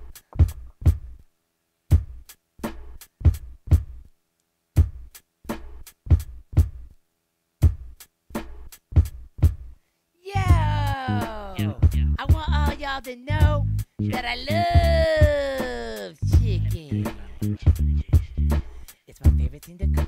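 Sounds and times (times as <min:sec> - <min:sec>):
hip hop drum machine beat: 0:00.0 - 0:01.2, 0:01.9 - 0:04.1, 0:04.8 - 0:06.9, 0:07.6 - 0:20.0.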